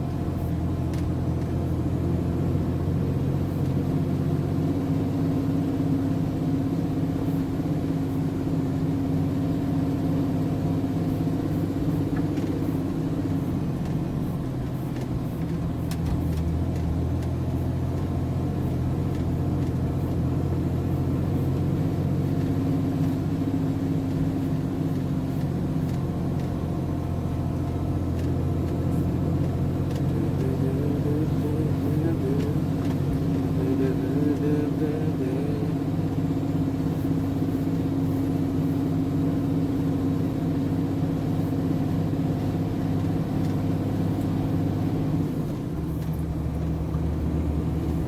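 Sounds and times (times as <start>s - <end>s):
truck diesel engine running: 0.0s - 48.0s.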